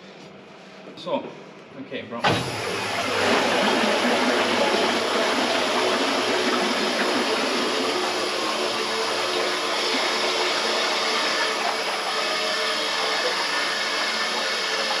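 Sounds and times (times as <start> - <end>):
water pouring into a tray: 2.3 - 15.0.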